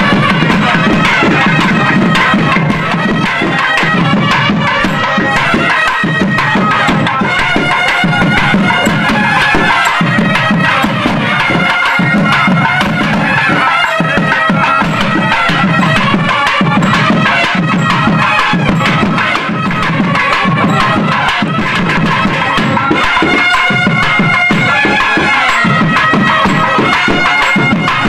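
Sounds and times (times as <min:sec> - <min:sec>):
drums beaten in steady rhythm: 0:00.0 - 0:28.0
reed horns wailing melody: 0:00.0 - 0:28.0.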